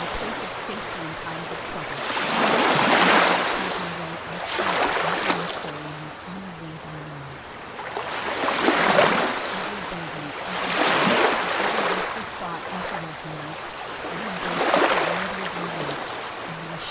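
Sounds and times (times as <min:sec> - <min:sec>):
ocean waves washing in: 0:00.0 - 0:16.9.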